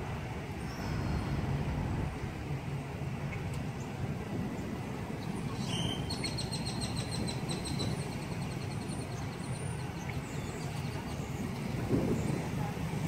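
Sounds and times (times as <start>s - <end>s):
vehicles driving slowly past: 0.0s - 13.0s.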